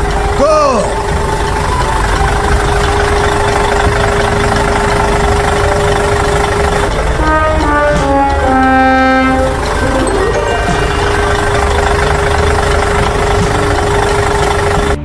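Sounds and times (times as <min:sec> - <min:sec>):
vehicle engine running: 0:01.0 - 0:15.0
short tune of stepped notes: 0:02.2 - 0:14.2.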